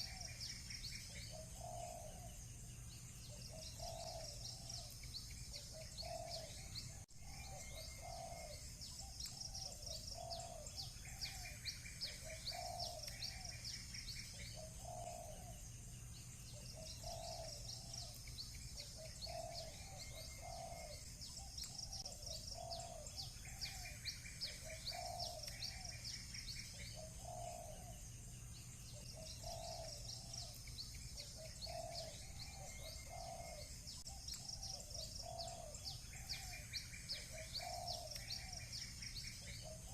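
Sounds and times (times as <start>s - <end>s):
doves cooing: 0.0s - 2.4s, 3.3s - 15.7s, 16.5s - 28.1s, 28.9s - 39.9s
small birds chirping: 0.0s - 39.9s.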